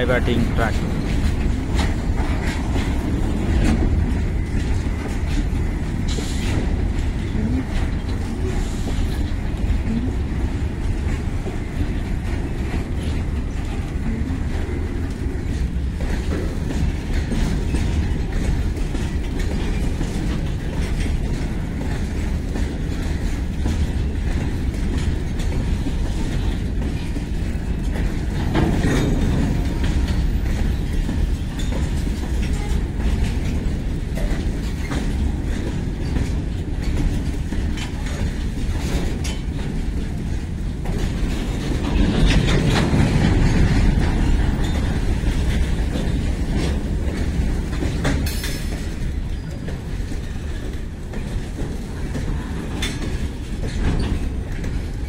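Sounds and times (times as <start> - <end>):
train wheels rumbling on rail: 0.0 - 55.0
wheels clattering over rail joints: 0.0 - 55.0.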